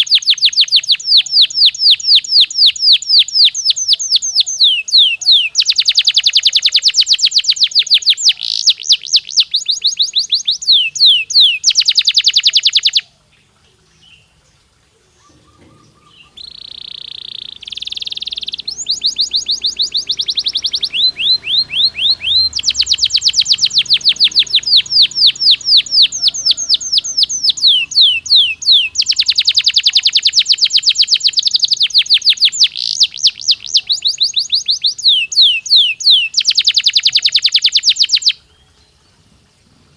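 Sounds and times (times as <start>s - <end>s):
canary singing trills: 0.0s - 39.3s.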